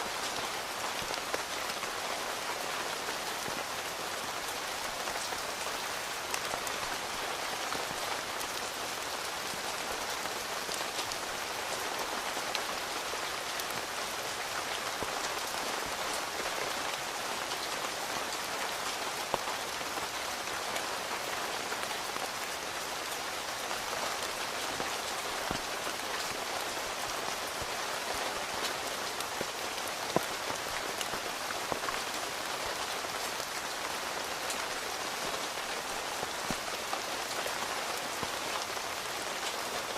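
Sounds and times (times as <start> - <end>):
rain on a tent: 0.0 - 39.9.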